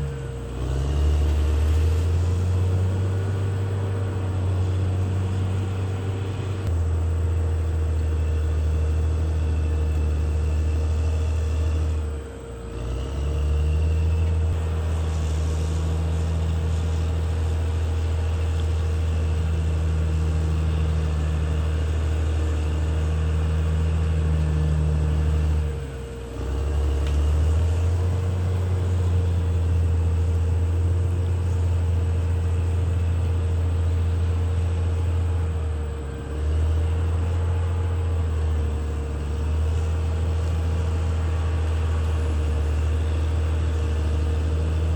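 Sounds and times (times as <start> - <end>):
bulldozer diesel engine running: 0.0 - 44.9
high engine whine: 0.0 - 44.9.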